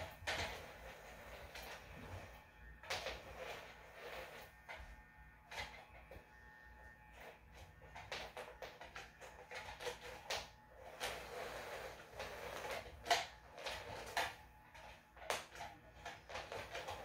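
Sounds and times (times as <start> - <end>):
electronic toy humming: 0.0 - 17.0.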